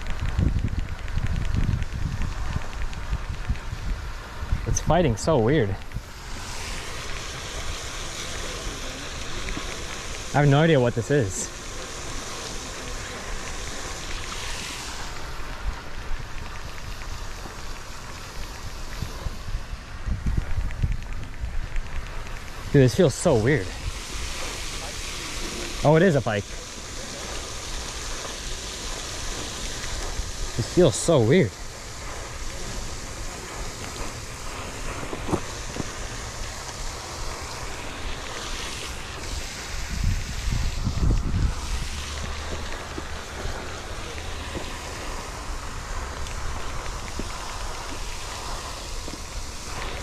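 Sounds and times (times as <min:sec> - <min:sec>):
fountain spray hissing: 0:00.0 - 0:50.0
wind on microphone: 0:00.0 - 0:50.0.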